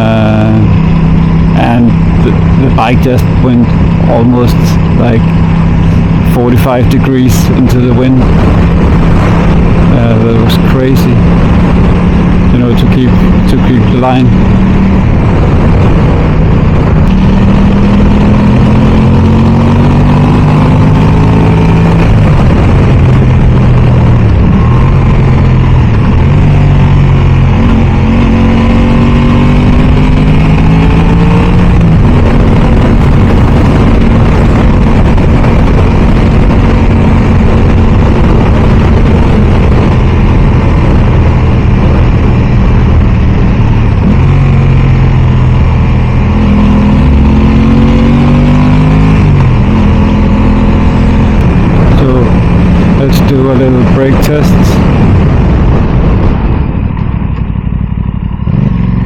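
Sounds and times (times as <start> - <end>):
motorcycle engine accelerating: 0.0 - 59.0
wind rushing over microphone: 0.0 - 59.0.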